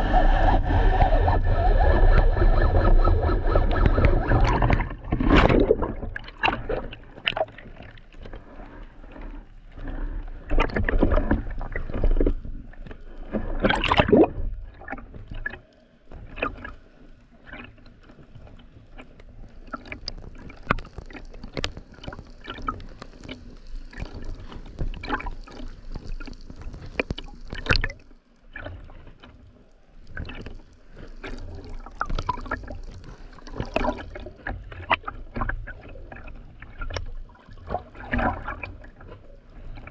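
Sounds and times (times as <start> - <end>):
water sloshing and splashing: 3.4 - 39.9.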